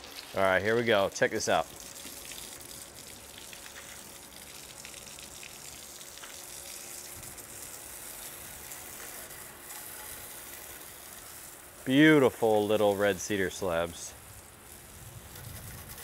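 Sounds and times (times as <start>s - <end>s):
hose spraying water on wet wood: 0.0s - 16.0s.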